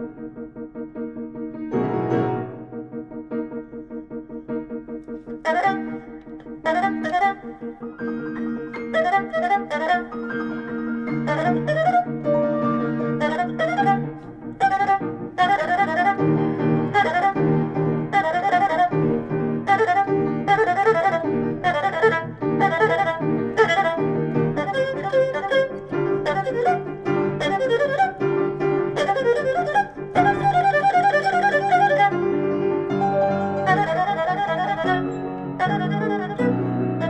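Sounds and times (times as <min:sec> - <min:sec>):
piano chords: 0:00.0 - 0:37.0
erhu melody with vibrato: 0:05.4 - 0:37.0.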